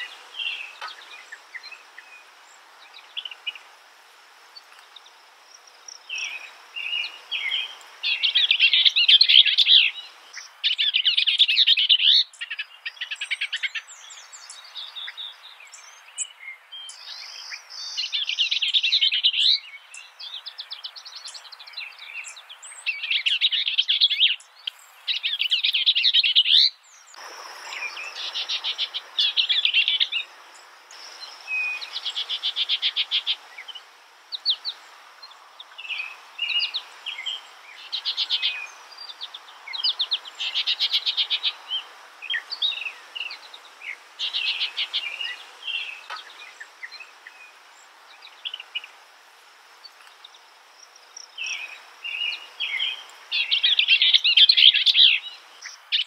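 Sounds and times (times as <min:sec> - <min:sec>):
background hiss: 0:00.0 - 0:56.0
songbird singing: 0:00.0 - 0:56.0.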